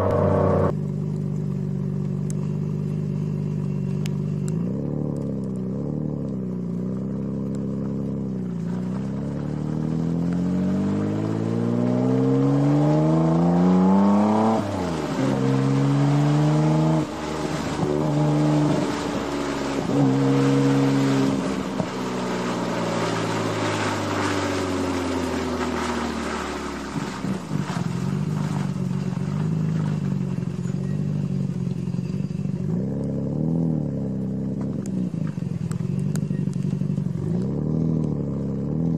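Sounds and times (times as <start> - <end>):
car engine revving: 0.0 - 38.9
exhaust crackling: 0.0 - 38.9.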